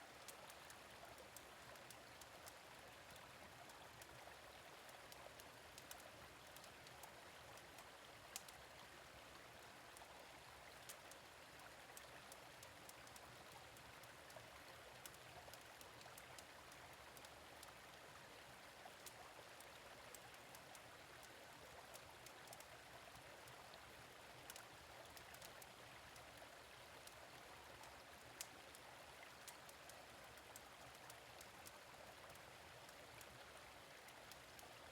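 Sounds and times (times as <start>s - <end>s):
gentle stream flowing: 0.0s - 34.9s.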